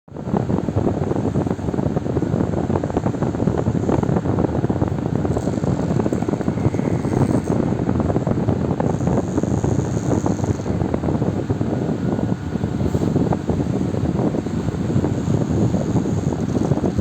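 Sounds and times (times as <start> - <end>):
electric fan running: 0.1 - 17.0.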